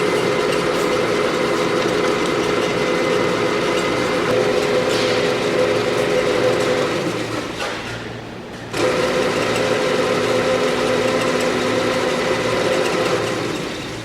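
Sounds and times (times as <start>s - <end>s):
drill press motor hum: 0.0s - 7.6s, 8.7s - 14.0s.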